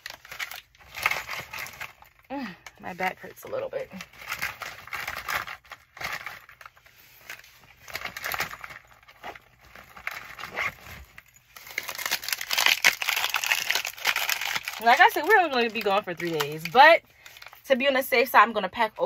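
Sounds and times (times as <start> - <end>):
plastic packaging rustling: 0.0 - 18.3.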